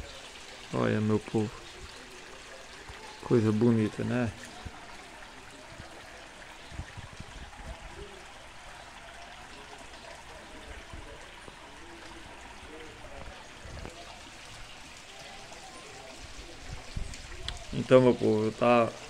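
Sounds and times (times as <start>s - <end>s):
water runoff hissing over dirt: 0.0s - 19.0s.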